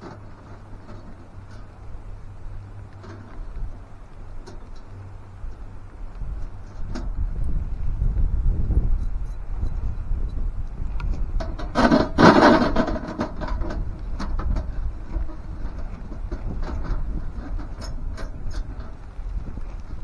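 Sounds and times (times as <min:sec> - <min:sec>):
scraping rustle: 0:00.0 - 0:20.0
wind buffeting microphone: 0:00.0 - 0:20.0.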